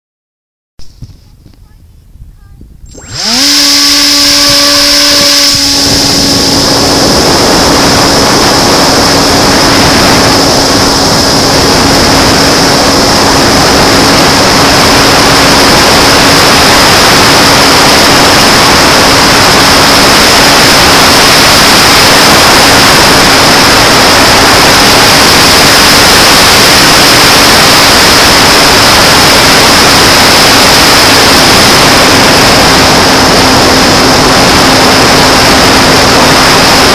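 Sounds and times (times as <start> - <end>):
wind rushing over microphone: 0.8 - 36.9
electric motor whine: 2.9 - 36.9.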